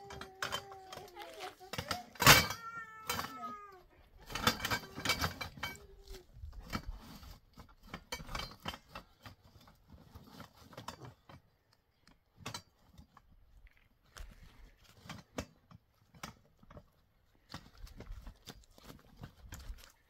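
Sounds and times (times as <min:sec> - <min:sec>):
tent poles clattering: 0:00.0 - 0:13.4, 0:14.3 - 0:20.0.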